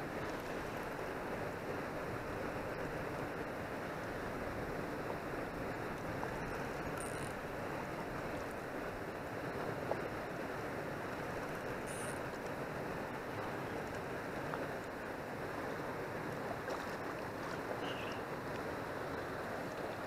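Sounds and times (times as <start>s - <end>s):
river water lapping on rocks: 3.2s - 20.0s.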